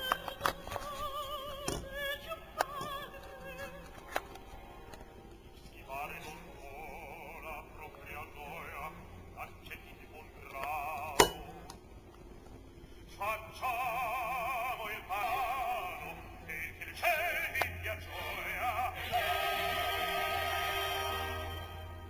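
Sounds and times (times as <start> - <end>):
operatic singing with vibrato: 0.0 - 11.9, 13.1 - 22.0.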